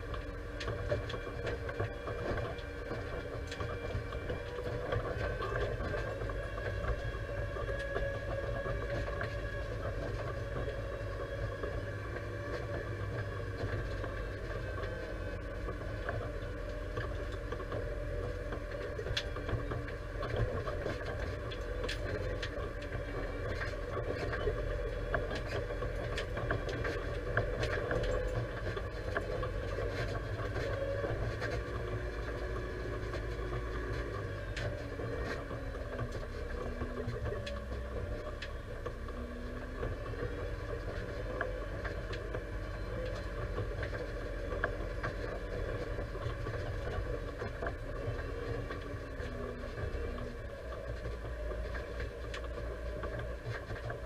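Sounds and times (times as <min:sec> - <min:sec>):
small clicks and rattles: 0:00.0 - 0:54.0
tractor diesel engine running: 0:00.0 - 0:54.0.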